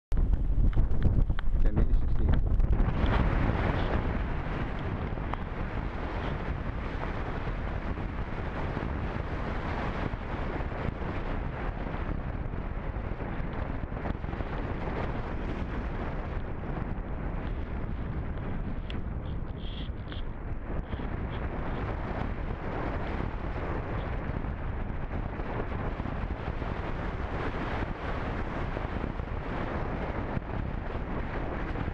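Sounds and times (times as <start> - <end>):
wind rushing over microphone: 0.1 - 31.9.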